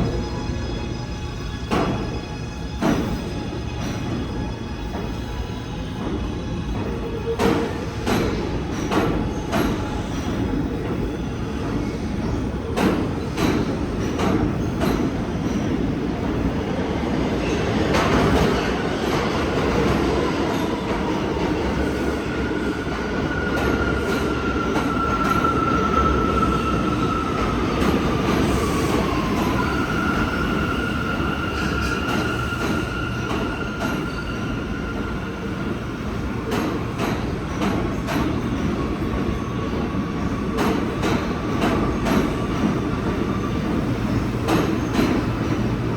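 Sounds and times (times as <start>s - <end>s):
subway train rumbling: 0.0s - 45.9s.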